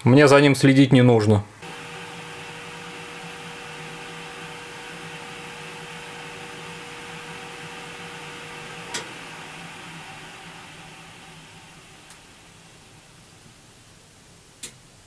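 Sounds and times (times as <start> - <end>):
electrical hum: 1.4 - 15.0.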